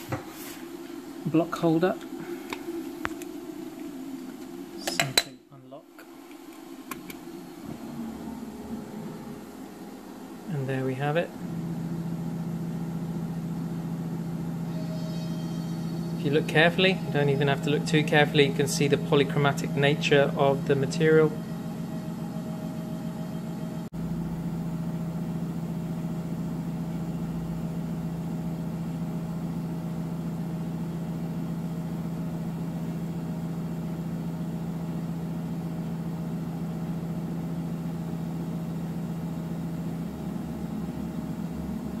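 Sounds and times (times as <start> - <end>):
machinery hum: 0.0 - 42.0.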